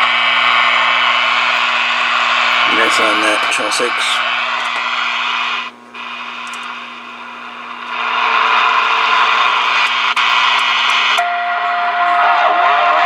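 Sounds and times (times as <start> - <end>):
steady low hum: 0.0 - 12.0
radio static hiss: 0.0 - 12.5.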